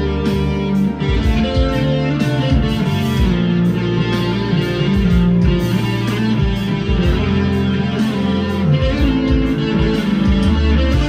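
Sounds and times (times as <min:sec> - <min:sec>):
distorted electric guitar riffing: 0:00.0 - 0:11.0.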